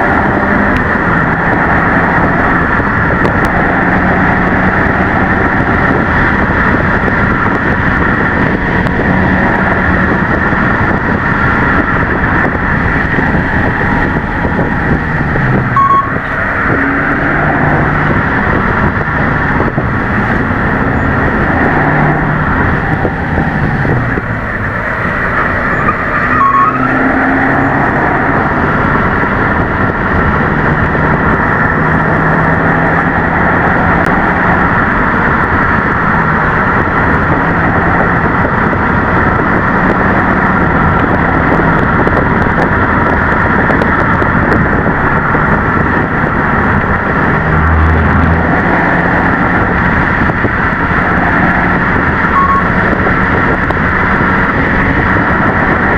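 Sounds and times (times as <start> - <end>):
car engine pulling: 0.0 - 55.9
intake and exhaust sound: 0.0 - 55.9.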